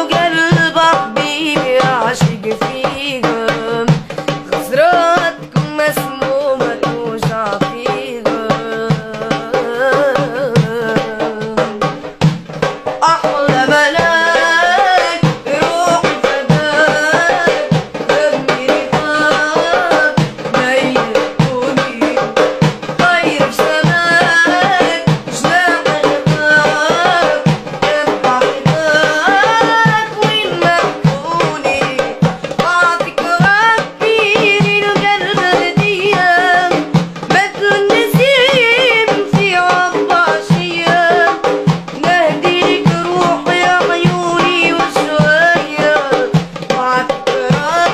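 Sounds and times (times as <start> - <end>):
boy singing: 0.0 - 47.9
goblet hand drum: 0.0 - 47.9.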